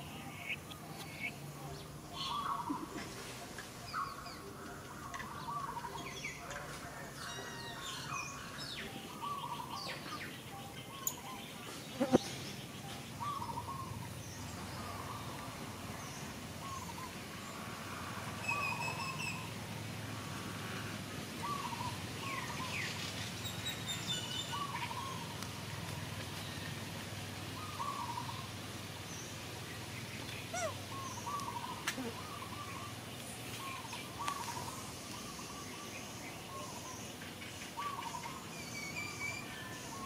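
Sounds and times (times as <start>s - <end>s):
birds calling: 0.0s - 17.6s, 21.4s - 26.8s, 27.5s - 40.0s.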